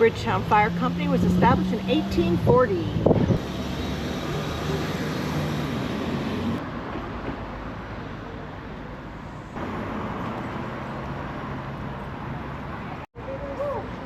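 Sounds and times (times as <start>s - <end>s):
vehicle engines passing: 0.0s - 14.0s.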